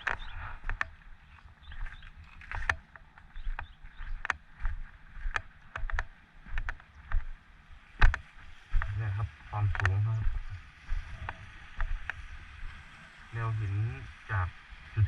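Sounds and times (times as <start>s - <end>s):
wind buffeting microphone: 0.0s - 13.5s.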